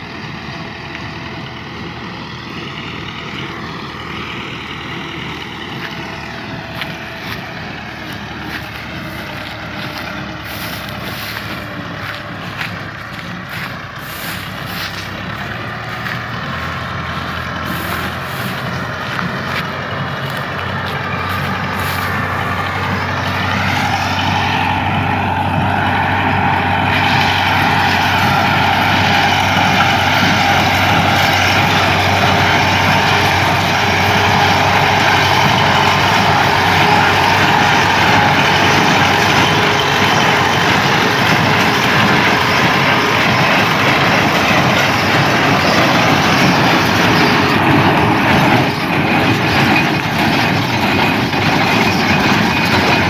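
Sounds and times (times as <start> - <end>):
tractor engine running under load: 0.0 - 53.0.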